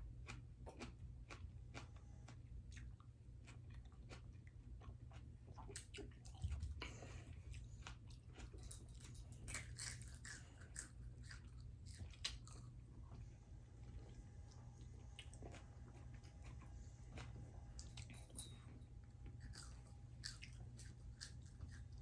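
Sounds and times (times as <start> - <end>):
chewing and biting food: 0.0 - 22.0.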